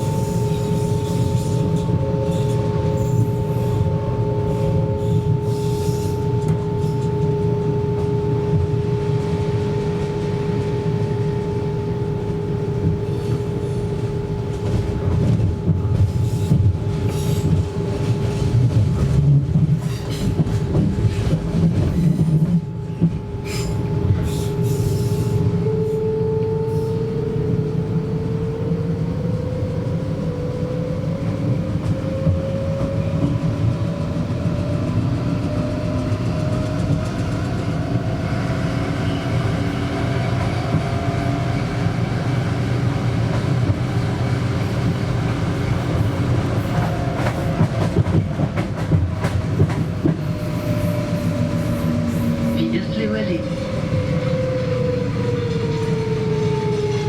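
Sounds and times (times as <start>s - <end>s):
train traction drive whining: 0.0s - 57.0s
wheels rumbling on track: 0.0s - 57.0s.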